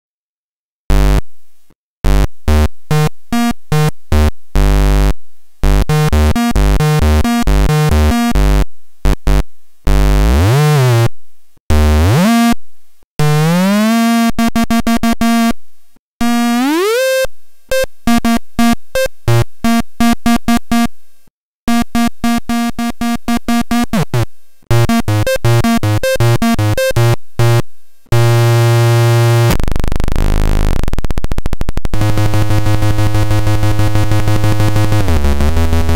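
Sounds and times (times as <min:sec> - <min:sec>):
buzzy square-wave synthesizer tones: 0:00.9 - 0:01.3, 0:02.0 - 0:11.1, 0:11.7 - 0:12.6, 0:13.2 - 0:15.6, 0:16.2 - 0:20.9, 0:21.7 - 0:35.9.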